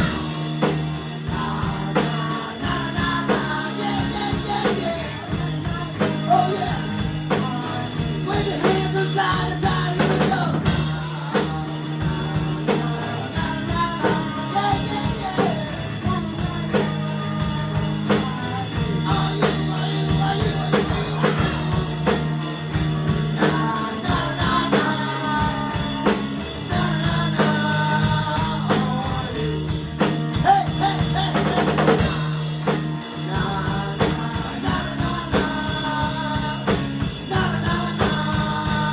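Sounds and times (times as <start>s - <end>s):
bass guitar: 0.0s - 38.9s
drum kit: 0.0s - 38.9s
guitar: 0.0s - 38.9s
person singing: 0.0s - 38.9s.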